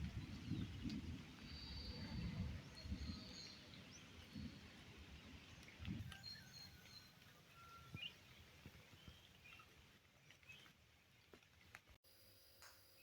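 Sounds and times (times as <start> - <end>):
faint birds chirping: 0.0 - 11.7.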